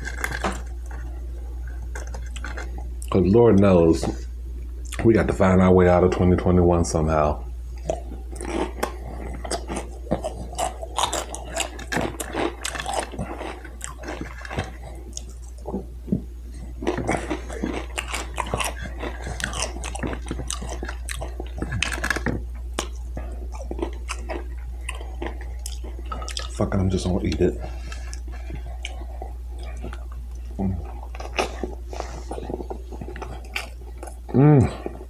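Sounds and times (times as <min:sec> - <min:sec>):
person chewing food: 0:00.0 - 0:05.0, 0:07.8 - 0:35.0.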